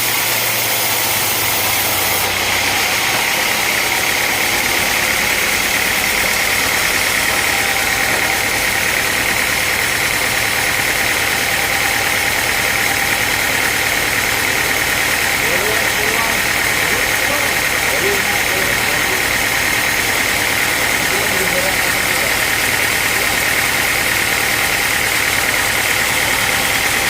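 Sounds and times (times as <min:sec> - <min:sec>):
sawmill saw running: 0:00.0 - 0:27.0.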